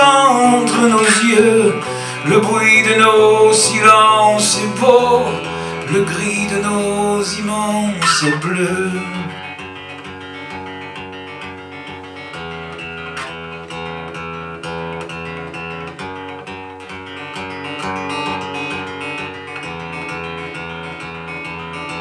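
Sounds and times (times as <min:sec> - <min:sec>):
plucked and strummed instrumental music: 0:00.0 - 0:22.0.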